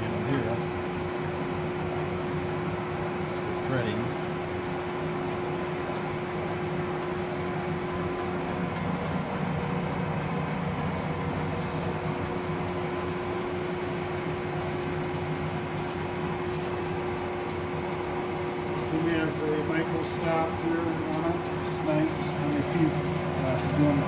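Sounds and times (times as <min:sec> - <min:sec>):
lathe mechanical hum: 0:00.0 - 0:24.0.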